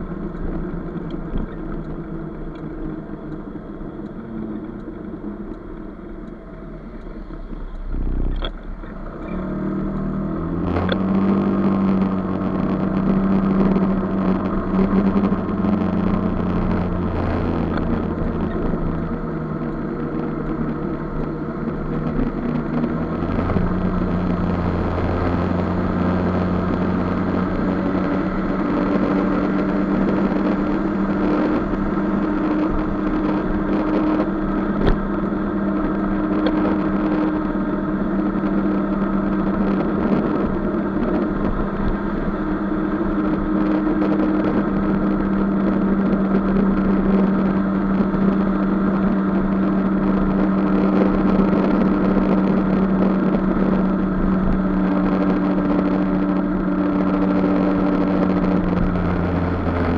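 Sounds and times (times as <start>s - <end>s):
scooter engine: 0.0s - 59.9s
wind and road noise: 0.0s - 59.9s.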